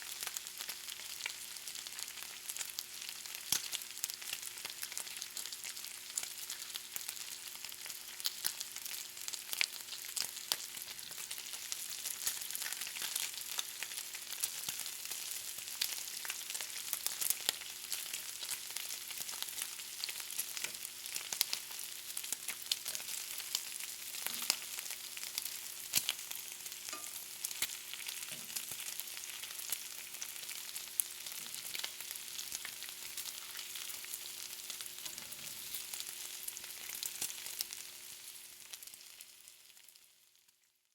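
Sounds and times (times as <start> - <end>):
bacon sizzling: 0.0 - 40.6.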